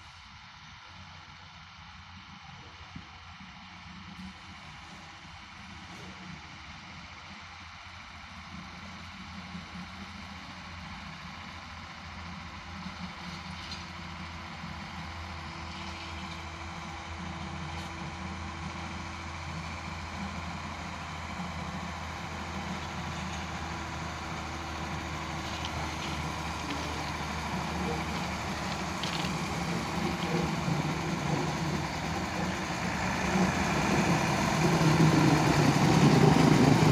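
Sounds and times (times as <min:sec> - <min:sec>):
truck engine running: 0:03.4 - 0:36.9.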